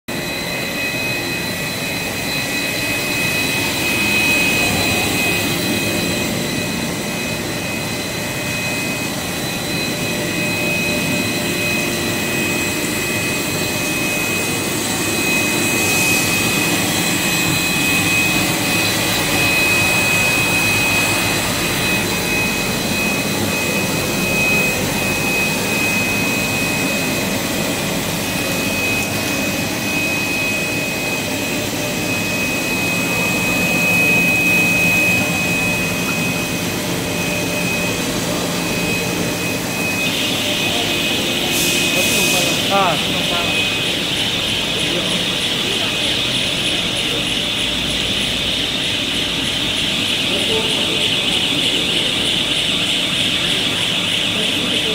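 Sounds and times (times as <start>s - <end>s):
high-pitched whine: 0.1s - 54.9s
machine whirring: 0.1s - 54.9s.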